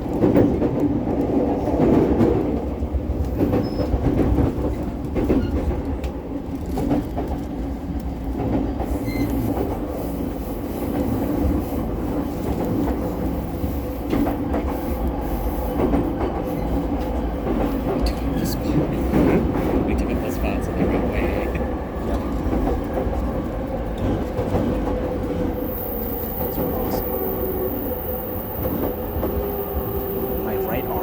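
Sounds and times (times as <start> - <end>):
train car rumble: 0.0 - 31.0.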